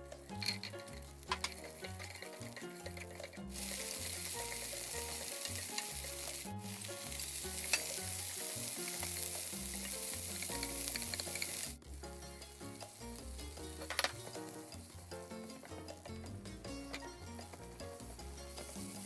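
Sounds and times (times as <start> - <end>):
food sizzling in oil: 0.0 - 19.0
chopsticks stirring in a pan: 0.2 - 19.0.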